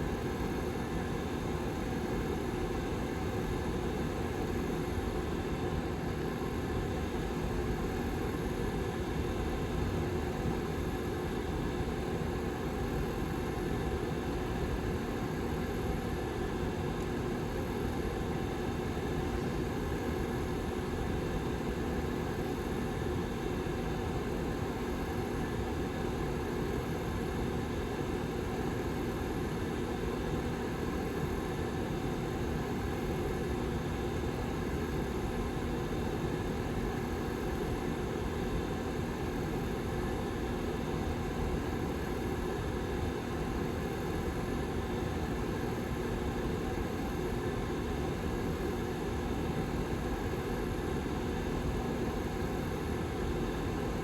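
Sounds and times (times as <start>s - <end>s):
heater fan humming: 0.0s - 54.0s.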